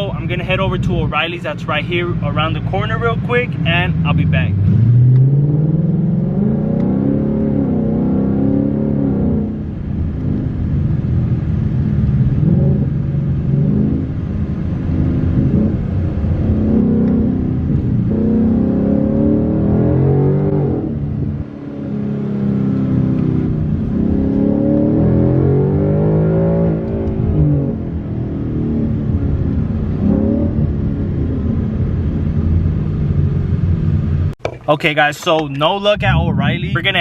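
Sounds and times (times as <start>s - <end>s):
car engine accelerating through gears: 3.5s - 34.4s.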